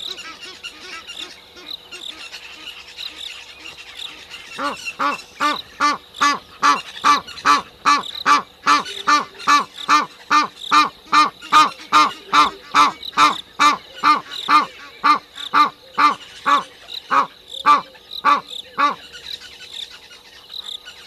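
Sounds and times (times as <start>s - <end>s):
faint high insect tone: 0.0s - 21.0s.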